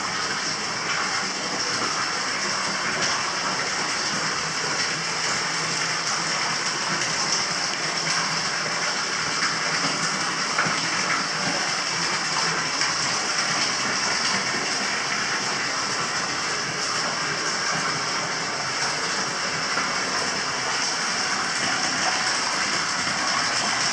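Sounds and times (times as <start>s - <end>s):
water pouring into a bath: 0.0s - 23.9s.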